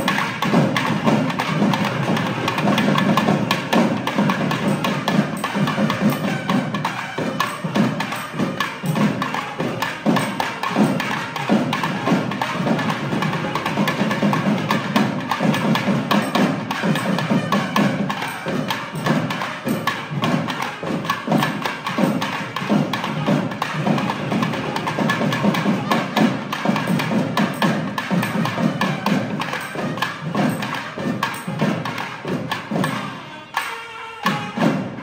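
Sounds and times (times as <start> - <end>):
drums beating fast strokes: 0.0 - 35.0
temple band playing: 0.0 - 35.0.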